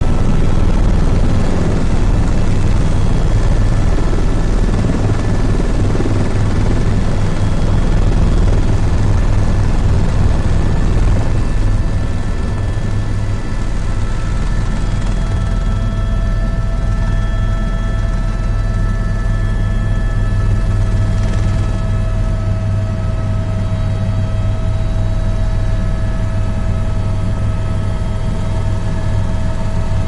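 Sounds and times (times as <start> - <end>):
faint steady whines: 0.0 - 30.0
helicopter engine and rotor: 0.0 - 30.0.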